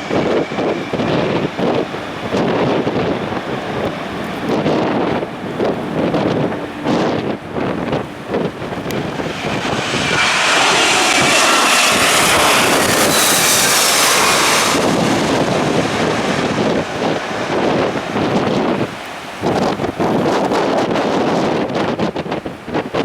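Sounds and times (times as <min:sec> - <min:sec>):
jet engines whining: 0:00.0 - 0:22.4
wind buffeting microphone: 0:00.0 - 0:23.0.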